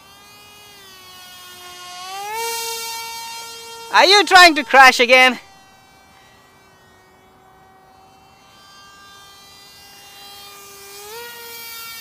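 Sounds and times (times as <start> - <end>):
electric motor and propeller whine: 0.0 - 12.0.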